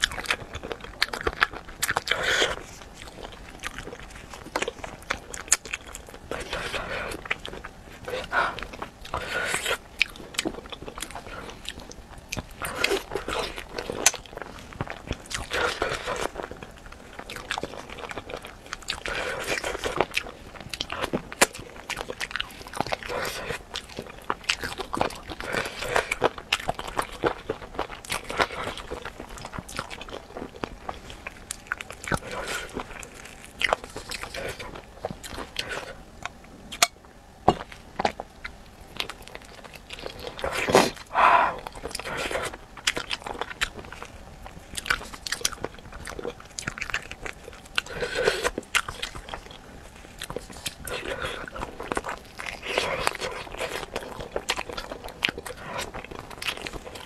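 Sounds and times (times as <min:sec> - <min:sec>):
biting and chewing with crunches: 0:00.0 - 0:57.0.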